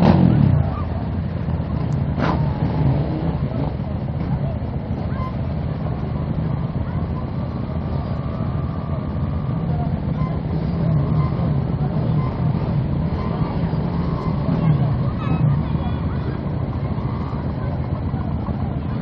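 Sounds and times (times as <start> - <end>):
quad engine idling: 0.0 - 19.0.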